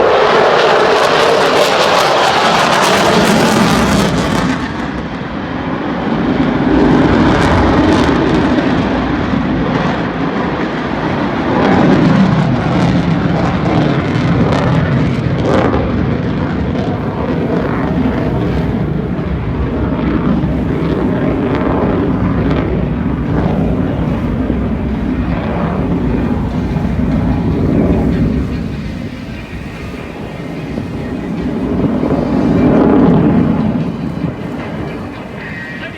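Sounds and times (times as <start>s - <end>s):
jet engine roar: 0.0s - 35.9s.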